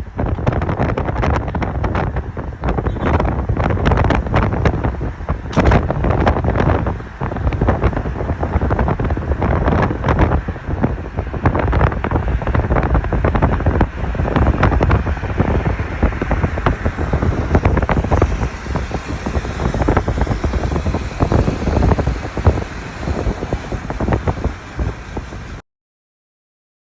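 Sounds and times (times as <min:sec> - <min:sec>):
wind buffeting microphone: 0:00.0 - 0:25.6.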